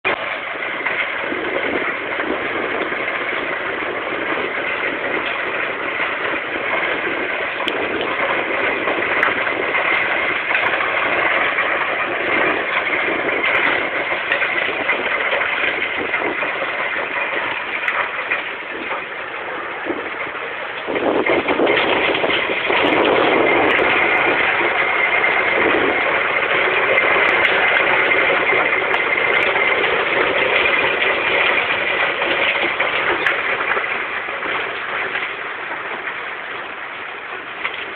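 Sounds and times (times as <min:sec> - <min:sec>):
stone crushing machinery din: 0:00.1 - 0:37.9.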